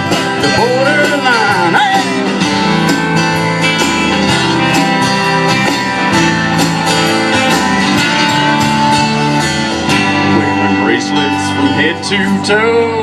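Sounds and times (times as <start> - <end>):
steady drum beat: 0.0 - 11.6
strummed guitar chords: 0.0 - 13.0.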